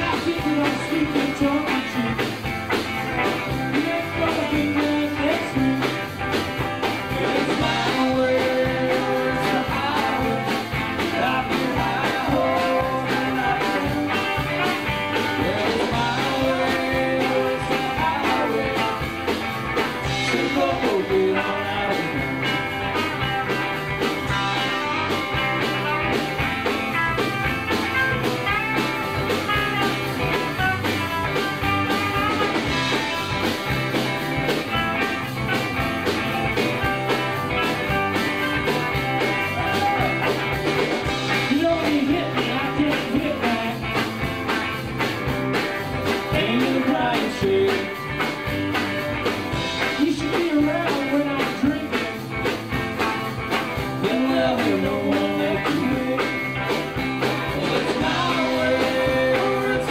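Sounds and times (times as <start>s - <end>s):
bending lead guitar notes: 0.0s - 59.9s
live band playing: 0.0s - 59.9s.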